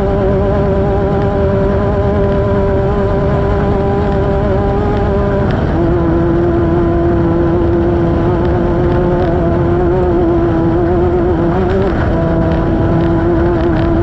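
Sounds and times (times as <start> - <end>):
low rushing noise: 0.0 - 14.0
race car engine running hard: 0.0 - 14.0.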